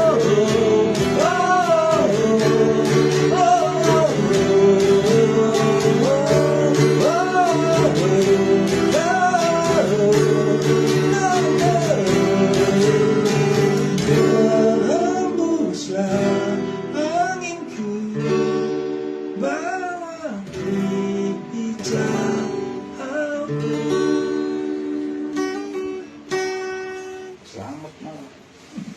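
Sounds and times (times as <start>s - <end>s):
person singing wordless melody: 0.0s - 18.7s, 19.4s - 25.6s
acoustic guitar strumming: 0.0s - 28.9s.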